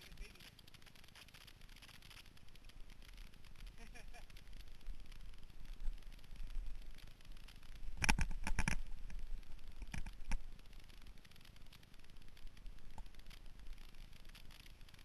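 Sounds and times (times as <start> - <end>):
wind rumble: 0.6 - 15.0.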